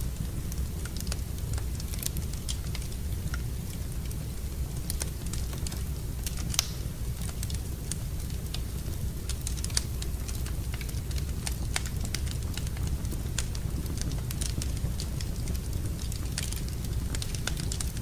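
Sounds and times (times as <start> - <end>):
low fire rumble: 0.0 - 18.0
wood fire crackling: 0.0 - 18.0
fire popping: 0.1 - 18.0.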